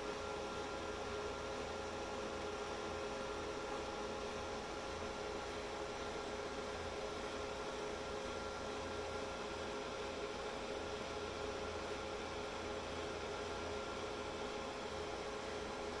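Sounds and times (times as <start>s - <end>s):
server cooling fans whirring: 0.0s - 16.0s.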